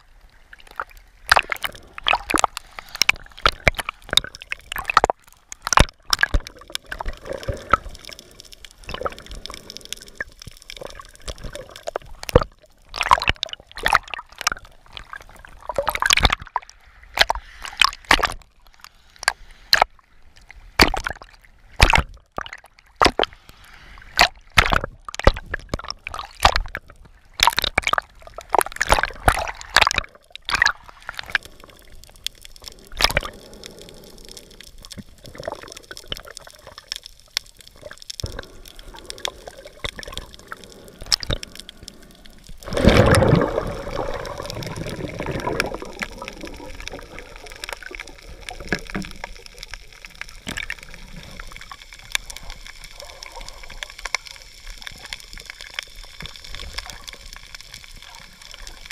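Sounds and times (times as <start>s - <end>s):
rush of water: 0.0s - 18.4s, 19.2s - 58.9s
crackles and clicks: 0.0s - 58.9s
water sloshing and gurgling: 0.0s - 58.9s.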